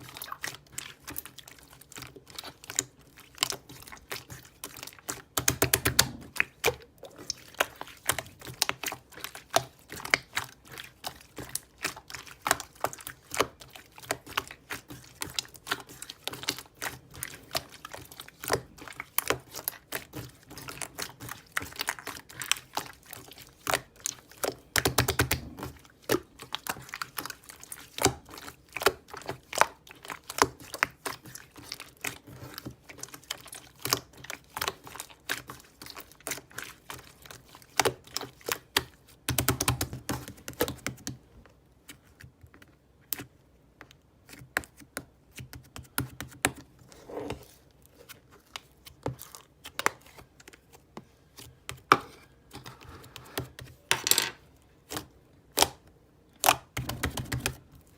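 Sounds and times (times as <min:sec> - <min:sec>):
slime squishing: 0:00.0 - 0:57.9.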